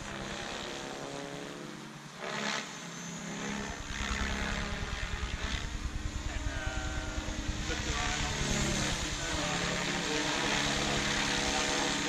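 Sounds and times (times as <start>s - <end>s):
rc helicopter rotor whine: 0.0s - 12.0s.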